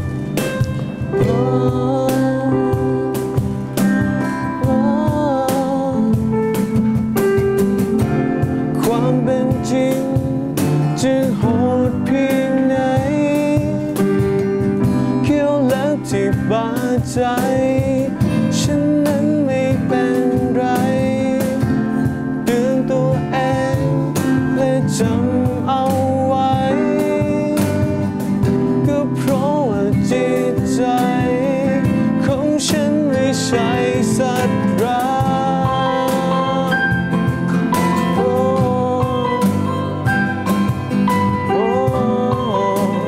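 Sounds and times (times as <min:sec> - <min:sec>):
person singing: 0:00.0 - 0:06.8, 0:07.9 - 0:43.0
acoustic guitar: 0:00.0 - 0:43.0
cajon: 0:00.0 - 0:43.0
keyboard: 0:00.0 - 0:43.0.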